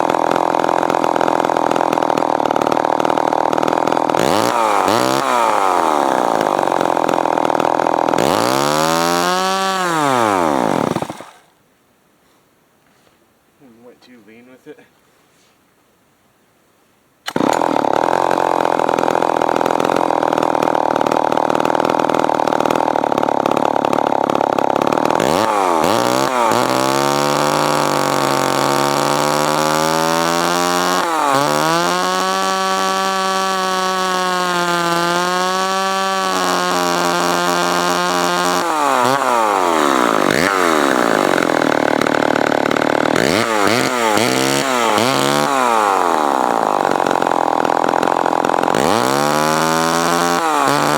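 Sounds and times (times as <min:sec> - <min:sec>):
chainsaw engine revving: 0:00.0 - 0:11.5, 0:17.3 - 0:50.9.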